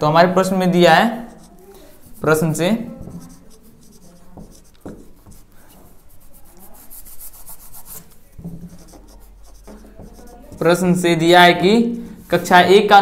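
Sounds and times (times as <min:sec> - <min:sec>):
marker pen on whiteboard: 0:00.3 - 0:13.0.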